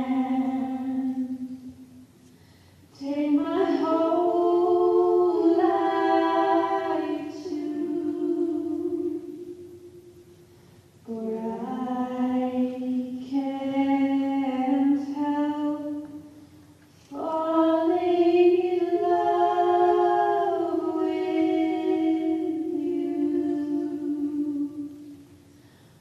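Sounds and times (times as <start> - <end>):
person singing unaccompanied: 0.0 - 1.8, 3.0 - 10.1, 11.1 - 16.3, 17.1 - 25.2.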